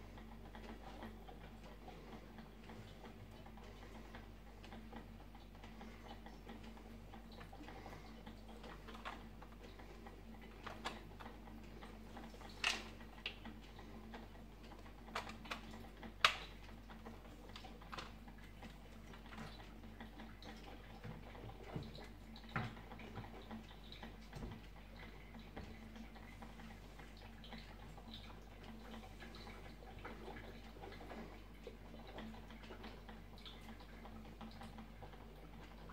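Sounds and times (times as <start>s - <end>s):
coffee maker ticking and clicking: 0.0s - 35.9s.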